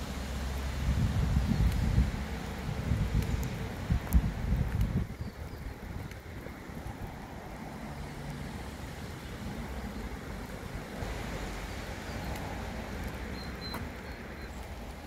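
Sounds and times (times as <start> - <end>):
rain hissing: 0.0 - 15.0
wind rumbling on microphone: 0.0 - 15.0.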